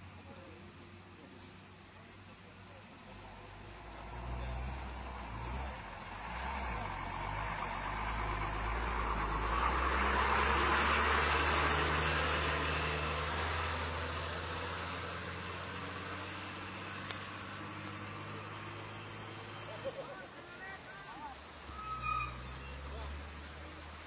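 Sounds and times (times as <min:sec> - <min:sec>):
road noise rushing: 0:00.0 - 0:24.0
vehicle engine hum: 0:00.0 - 0:24.0.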